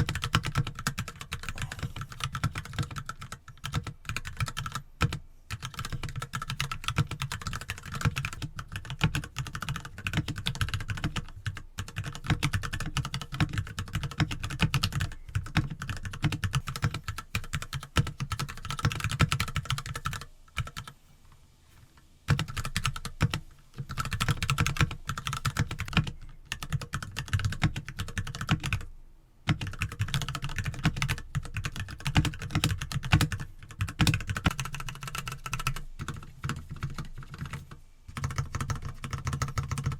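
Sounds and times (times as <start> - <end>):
mechanical keyboard typing: 0.0 - 20.9, 22.3 - 28.9, 29.5 - 39.9.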